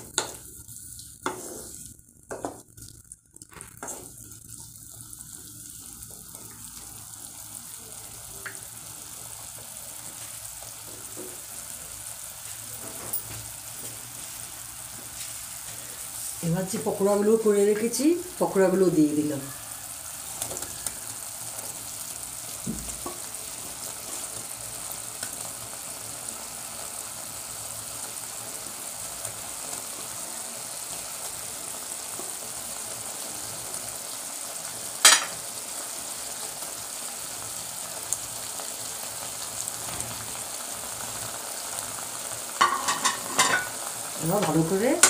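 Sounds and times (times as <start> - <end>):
food sizzling in a wok: 0.0 - 45.0.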